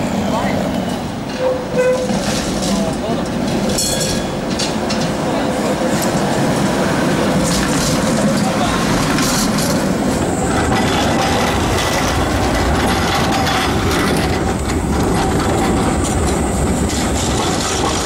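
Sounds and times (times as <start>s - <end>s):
tram wheels rumbling on rails: 0.0s - 18.0s
clicking over rail joints: 1.0s - 18.0s.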